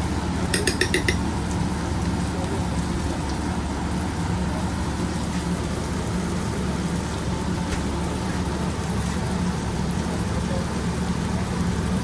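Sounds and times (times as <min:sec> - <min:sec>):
kitchen machinery hum and hiss: 0:00.0 - 0:12.0.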